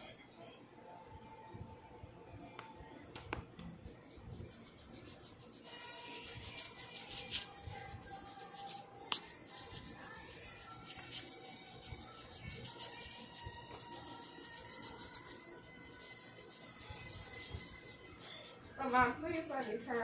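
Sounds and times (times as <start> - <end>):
pencil scratching on paper: 3.9 - 20.0.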